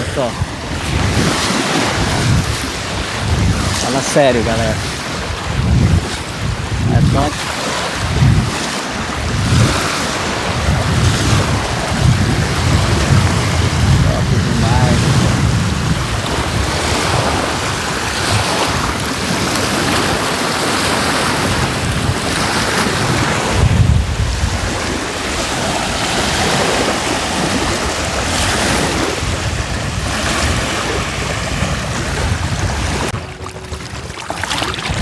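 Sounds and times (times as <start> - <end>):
small waves washing onto shore: 0.0 - 35.0
wind buffeting microphone: 0.0 - 35.0.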